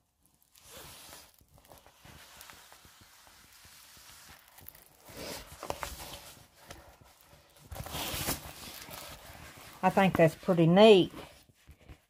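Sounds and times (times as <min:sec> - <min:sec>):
soft rustling of plastic cover: 0:00.0 - 0:12.0.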